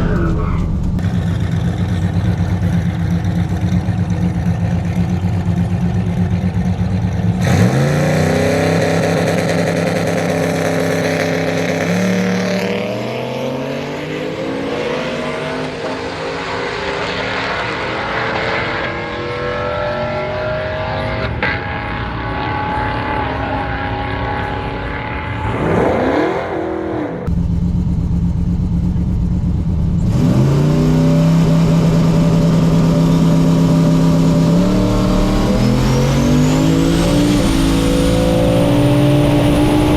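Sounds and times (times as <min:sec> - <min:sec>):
truck engine accelerating hard: 0:00.0 - 0:39.9.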